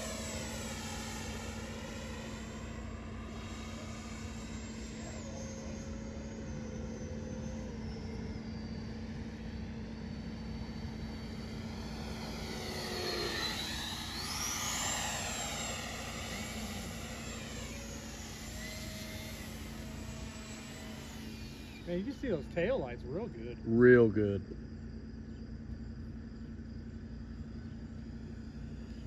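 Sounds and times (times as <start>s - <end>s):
rc jet fan whining: 0.0s - 29.0s.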